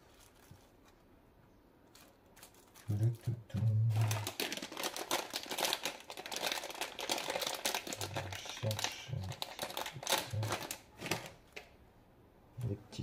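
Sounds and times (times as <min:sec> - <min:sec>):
crinkling and rustling: 0:00.0 - 0:11.8.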